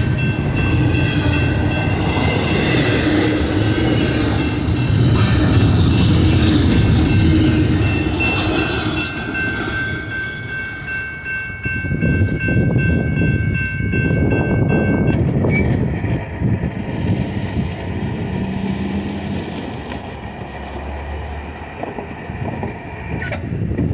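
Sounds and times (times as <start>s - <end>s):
freight train rumbling and clattering: 0.0s - 23.9s.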